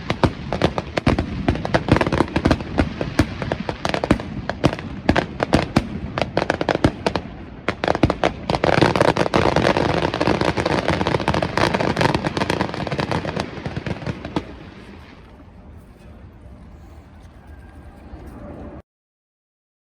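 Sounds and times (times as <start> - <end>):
fireworks bangs and crackling: 0.0 - 16.3.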